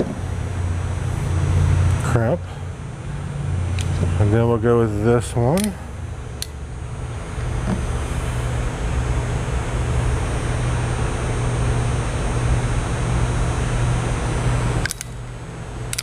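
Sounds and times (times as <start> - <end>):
machine running with low hum: 0.0 - 16.0.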